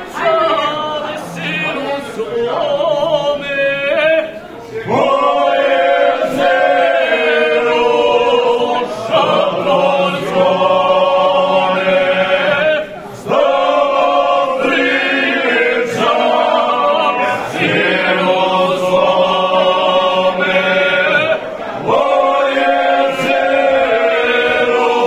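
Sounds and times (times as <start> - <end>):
men singing in harmony: 0.0 - 25.0.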